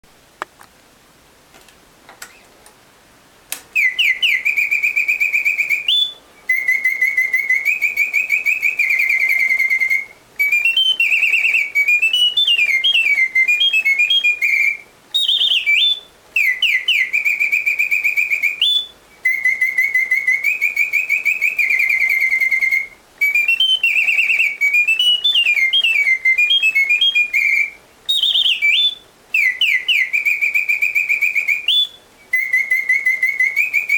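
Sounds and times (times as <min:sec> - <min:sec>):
mechanical bird whistle singing: 0:03.7 - 0:33.9.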